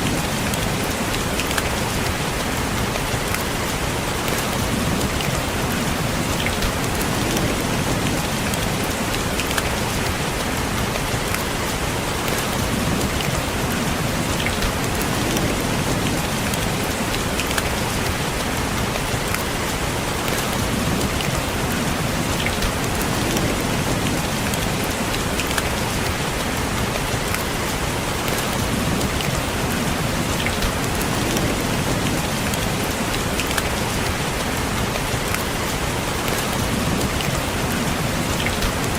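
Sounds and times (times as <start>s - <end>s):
rain tapping on window: 0.0s - 38.9s.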